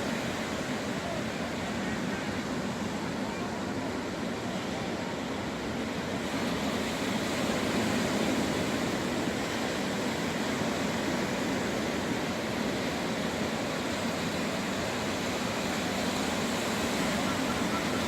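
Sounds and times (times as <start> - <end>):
beach surf rushing: 0.0 - 18.0.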